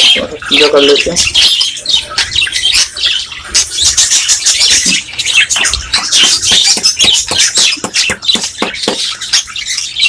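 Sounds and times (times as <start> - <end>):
budgerigars chattering and chirping: 0.0 - 10.0.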